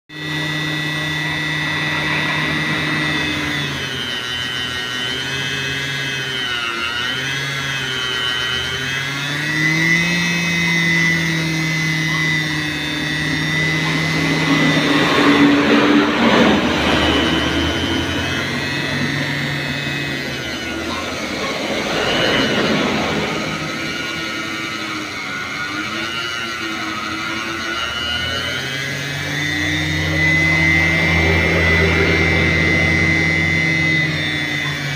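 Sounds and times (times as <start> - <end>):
small electric motor whining: 0.1 - 34.9.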